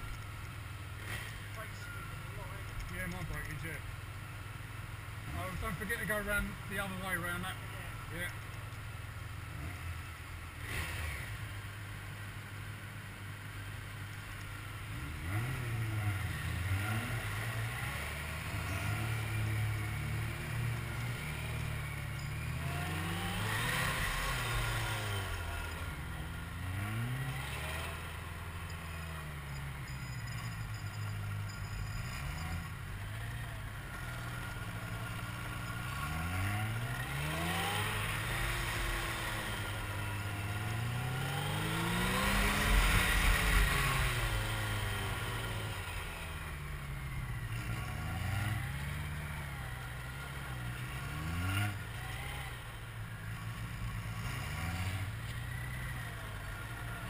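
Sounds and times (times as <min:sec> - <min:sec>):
motorcycle engine revving: 0:00.8 - 0:03.9, 0:09.1 - 0:11.9, 0:14.7 - 0:57.0.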